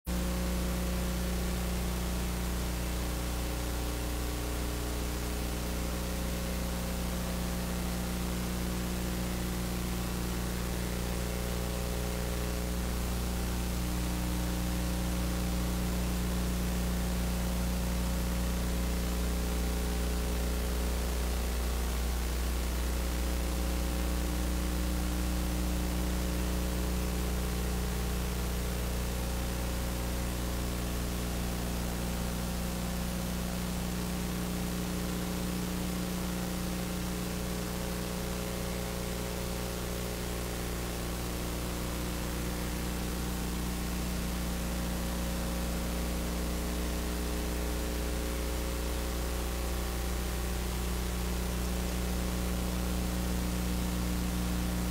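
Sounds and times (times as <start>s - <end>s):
electrical mains hum: 0.1s - 54.9s
steady hiss: 0.1s - 54.9s.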